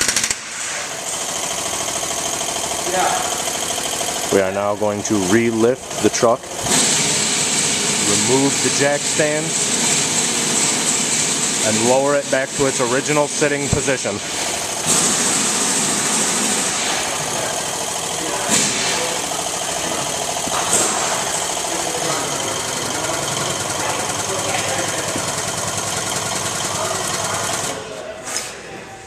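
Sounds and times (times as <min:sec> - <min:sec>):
pneumatic jack rattling and hissing: 0:00.0 - 0:28.6.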